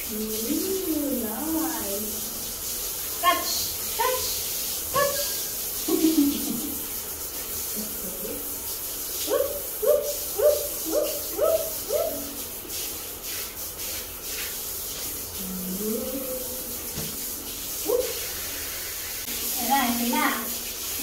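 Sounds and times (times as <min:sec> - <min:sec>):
shower water spraying: 0:00.0 - 0:21.0.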